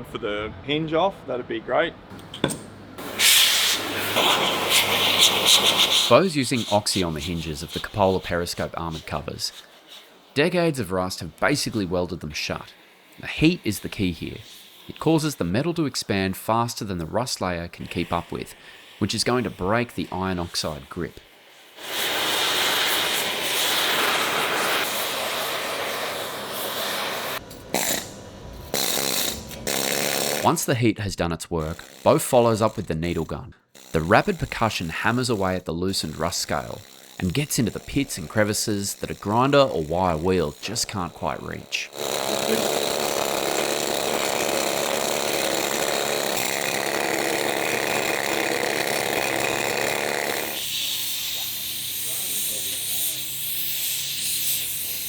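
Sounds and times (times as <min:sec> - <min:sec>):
torch flame hissing: 0:03.0 - 0:30.7, 0:31.6 - 0:55.0.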